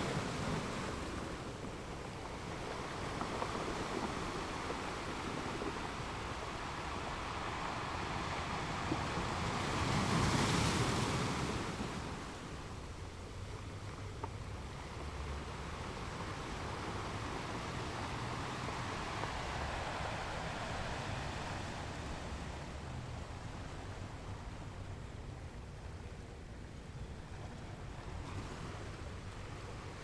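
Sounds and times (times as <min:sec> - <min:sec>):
ocean waves breaking on shore: 0:00.0 - 0:30.0.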